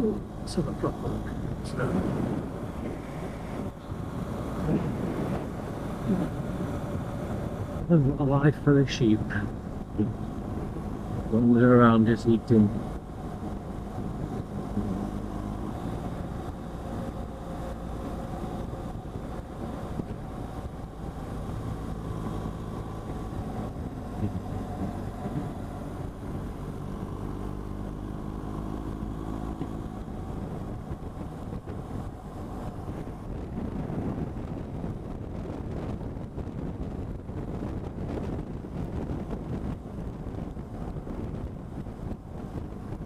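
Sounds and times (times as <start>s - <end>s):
motorcycle engine running: 0.0s - 43.0s
wind rushing over microphone: 0.0s - 43.0s.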